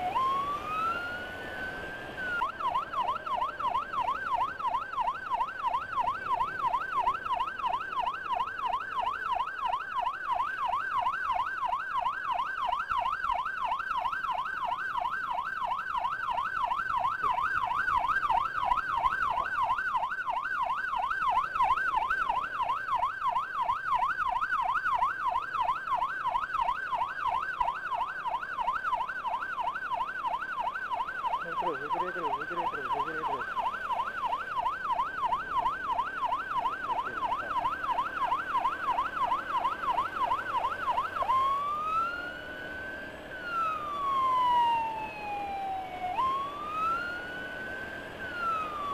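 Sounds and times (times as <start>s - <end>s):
emergency siren yelping: 0.0s - 48.9s.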